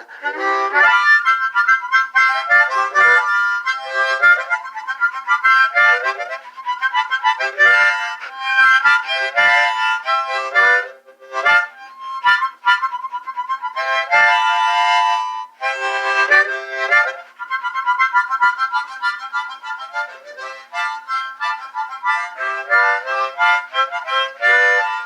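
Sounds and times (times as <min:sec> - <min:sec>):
harmonica solo: 0:00.0 - 0:25.0.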